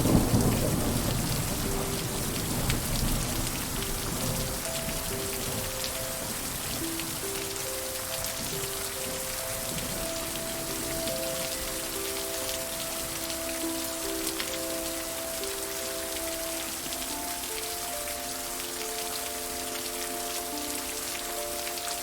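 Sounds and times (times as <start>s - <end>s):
rain pattering: 0.0s - 22.0s
slow soft melody: 0.0s - 22.0s.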